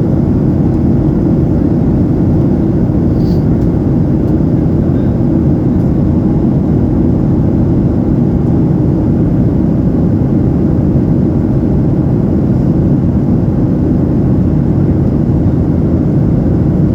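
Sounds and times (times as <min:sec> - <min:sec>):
airliner cabin noise: 0:00.0 - 0:16.9.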